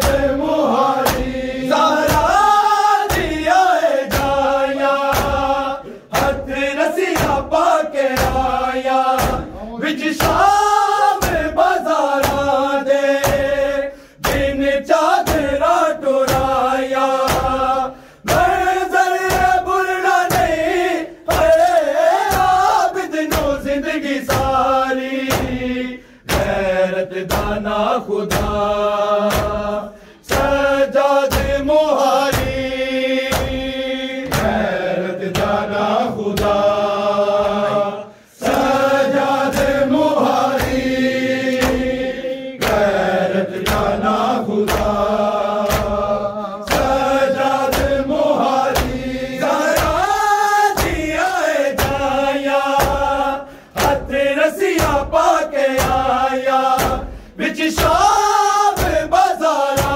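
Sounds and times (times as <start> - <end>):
men chanting in unison: 0.0 - 59.9
rhythmic chest-beating slaps: 0.0 - 59.9.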